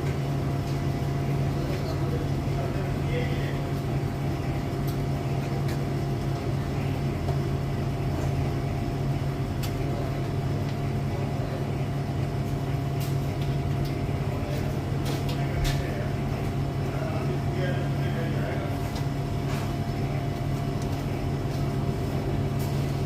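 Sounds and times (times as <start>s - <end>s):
low machinery hum: 0.0s - 23.0s.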